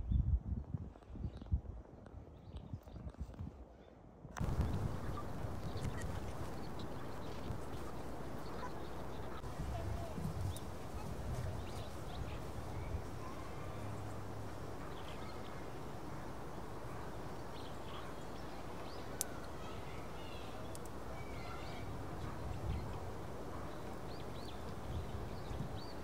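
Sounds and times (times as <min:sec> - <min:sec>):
small birds chirping: 0:04.4 - 0:15.9, 0:16.5 - 0:26.0.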